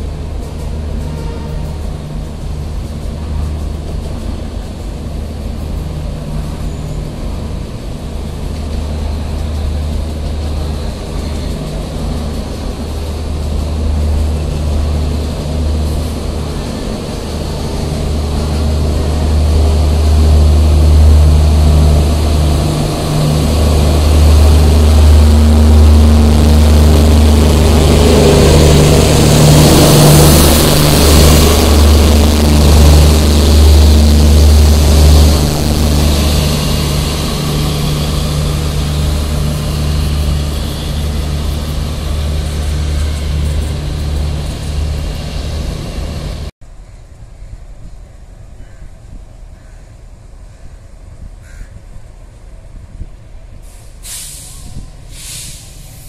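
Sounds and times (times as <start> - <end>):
diesel engine hum: 0.0 - 46.6
passing train rushing noise: 0.0 - 56.0.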